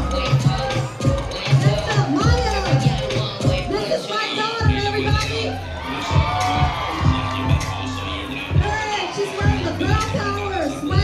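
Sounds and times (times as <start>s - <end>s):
crowd cheering: 0.0s - 11.0s
dance music: 0.0s - 11.0s.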